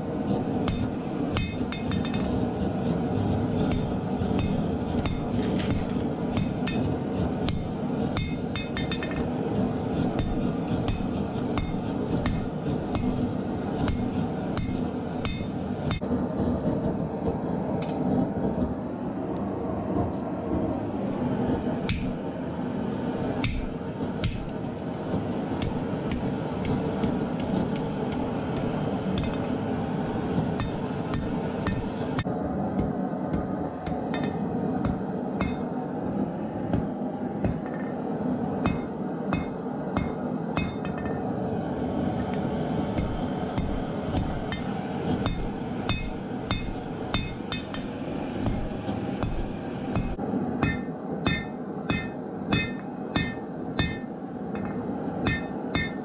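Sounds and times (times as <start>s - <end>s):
hammer blows on hot steel: 0.0s - 16.1s, 21.1s - 35.8s, 36.6s - 41.3s, 41.9s - 56.0s.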